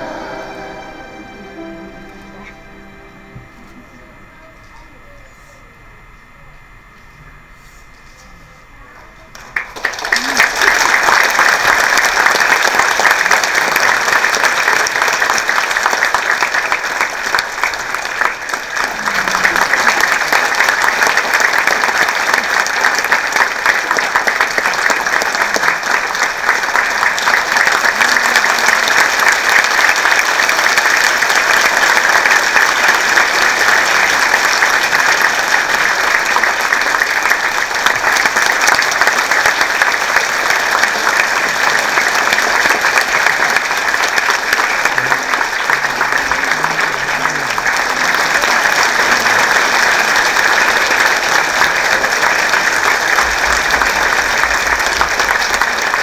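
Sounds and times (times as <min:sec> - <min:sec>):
audience applauding: 0:00.0 - 0:04.1, 0:09.0 - 0:56.0.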